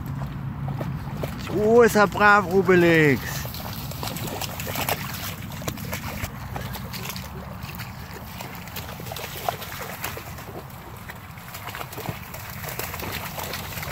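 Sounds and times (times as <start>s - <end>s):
dog splashing in shallow water: 0.0s - 13.9s.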